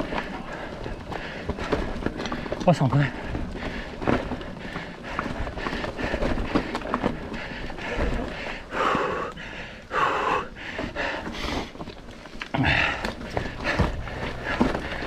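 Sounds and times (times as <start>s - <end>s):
bike clattering over rough trail: 0.0s - 15.0s.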